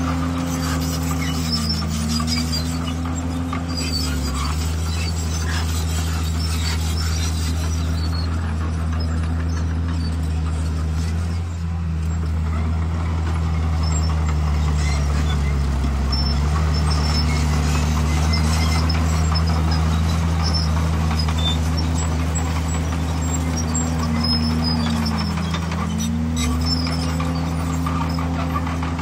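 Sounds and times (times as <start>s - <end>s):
heavy diesel engine under load: 0.0s - 29.0s.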